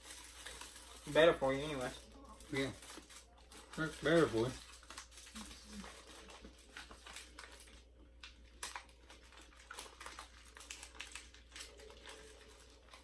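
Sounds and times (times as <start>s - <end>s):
paper wrapper crinkling: 0.0s - 13.0s.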